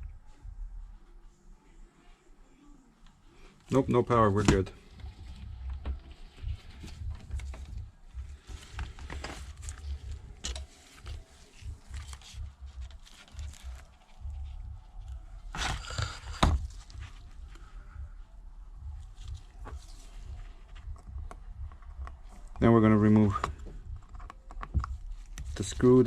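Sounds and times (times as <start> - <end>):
low rumble: 4.9 - 25.8.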